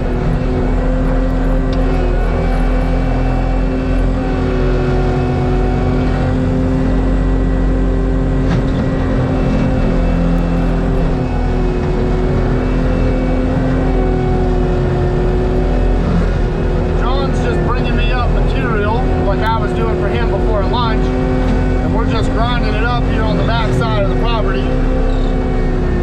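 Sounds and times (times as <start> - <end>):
diesel engine drone: 0.0 - 26.0
mulcher grinding wood: 0.0 - 26.0.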